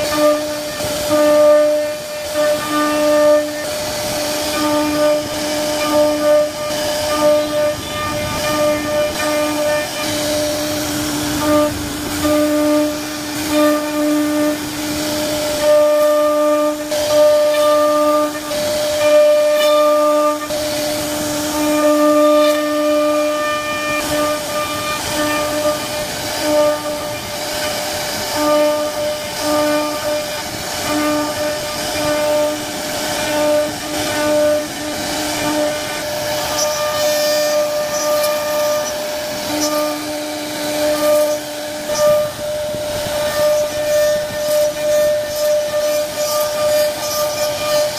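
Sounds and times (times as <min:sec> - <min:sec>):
cutter hissing in wood: 0:00.0 - 0:47.9
router spindle high-pitched whine: 0:00.0 - 0:47.9.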